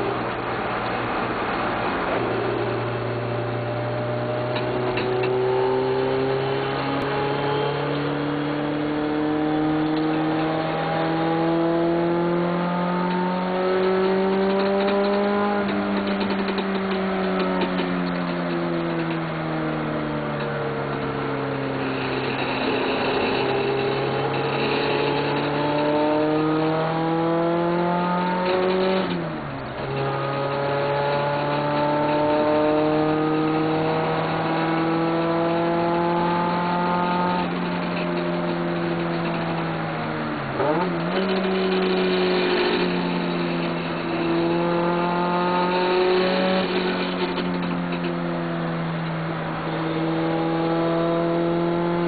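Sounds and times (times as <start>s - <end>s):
car engine revving under load: 0.0s - 52.0s.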